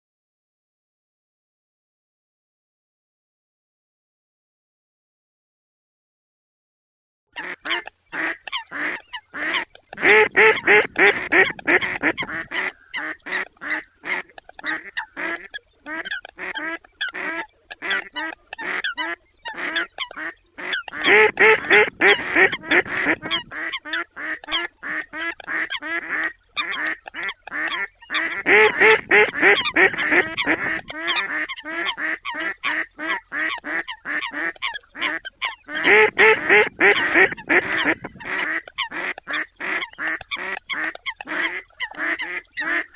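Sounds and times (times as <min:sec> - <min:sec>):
coots and ducks calling: 0:07.4 - 0:42.9.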